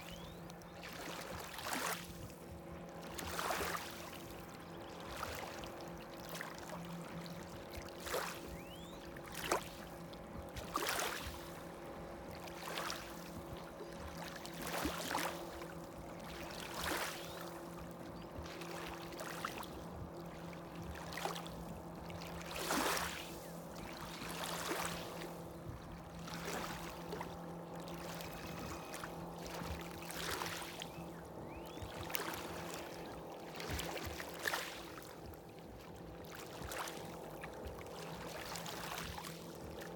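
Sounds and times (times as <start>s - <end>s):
distant motorboat engine hum: 0.0s - 39.9s
small waves lapping on shore: 0.0s - 39.9s.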